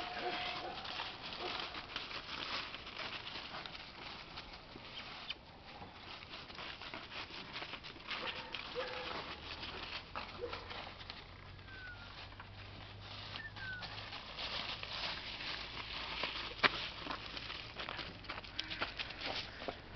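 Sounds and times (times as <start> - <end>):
footsteps in dry leaves: 0.0 - 19.9.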